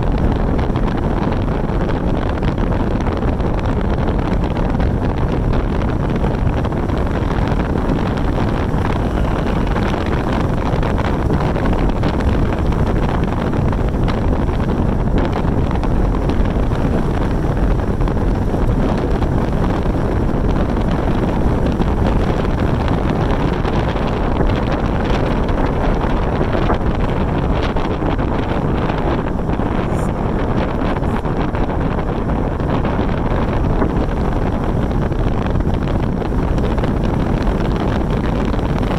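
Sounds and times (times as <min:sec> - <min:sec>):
moving vehicle drone: 0:00.0 - 0:38.9
wind rushing over microphone: 0:00.0 - 0:38.9.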